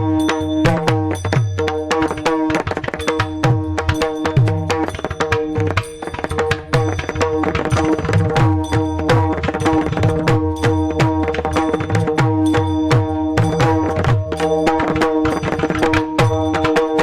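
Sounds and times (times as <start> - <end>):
hand drum fast rhythm: 0.0 - 17.0.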